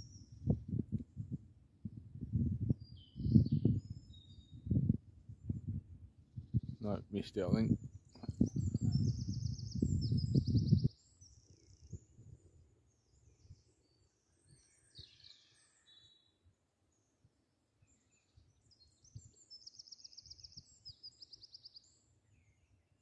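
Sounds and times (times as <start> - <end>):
songbirds singing: 0.0 - 1.4, 2.3 - 23.0.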